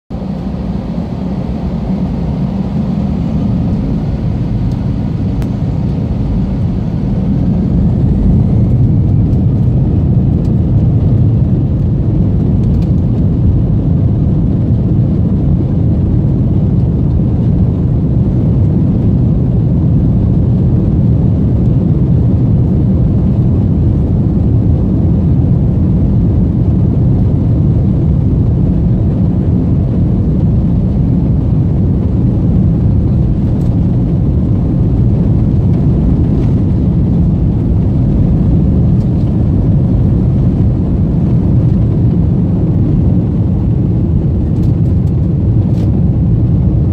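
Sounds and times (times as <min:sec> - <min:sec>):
jet engines rumbling from cabin: 0:00.1 - 0:46.9.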